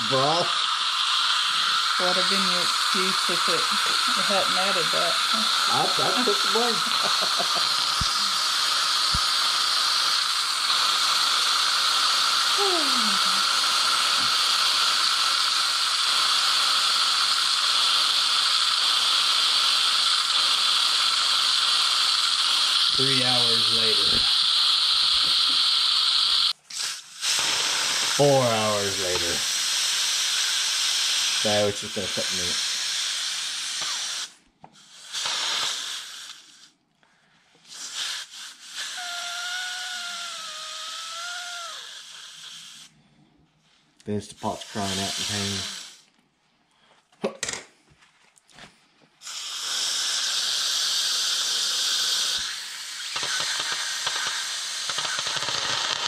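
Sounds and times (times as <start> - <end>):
pressure cooker steam hissing: 0.0 - 36.7, 37.6 - 42.9, 44.1 - 46.1, 49.2 - 56.0.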